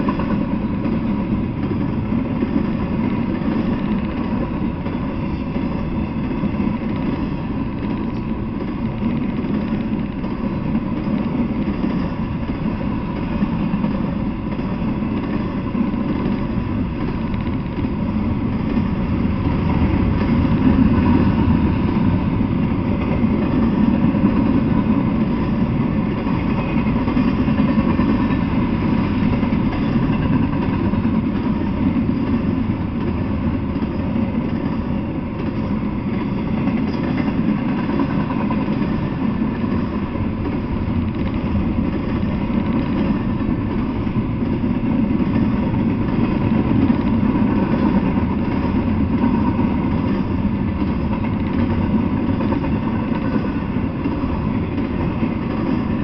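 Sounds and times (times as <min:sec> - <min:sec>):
freight wheels rumbling on rails: 0:00.0 - 0:56.0.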